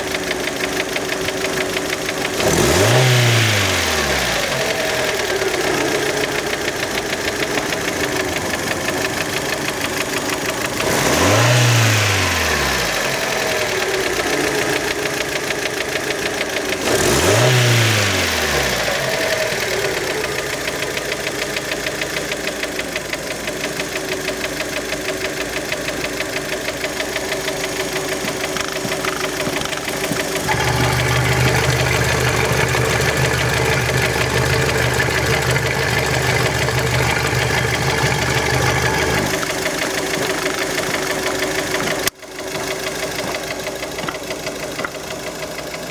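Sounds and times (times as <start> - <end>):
car engine idling and revving: 0.0 - 45.9.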